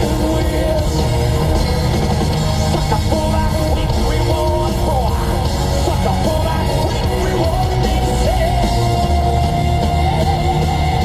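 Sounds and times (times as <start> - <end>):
person singing: 0.0 - 2.0, 2.7 - 11.0
heavy rock music: 0.0 - 11.0.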